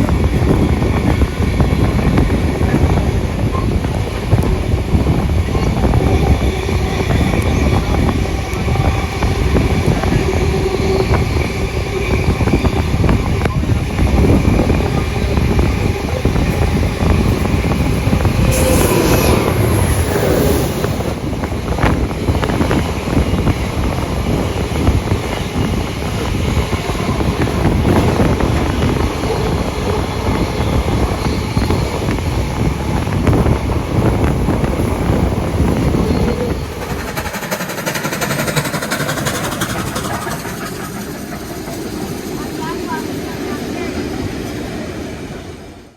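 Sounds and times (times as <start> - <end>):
train wheels on rails: 0.0 - 45.7.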